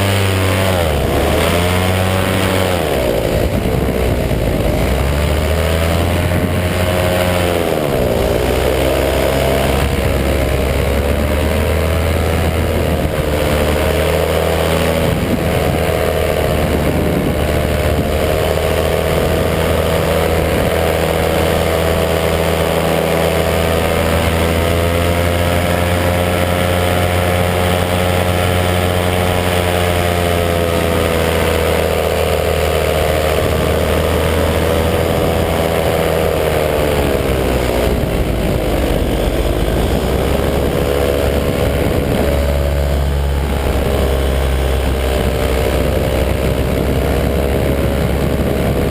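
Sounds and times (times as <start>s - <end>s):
paramotor engine and propeller: 0.0s - 48.9s.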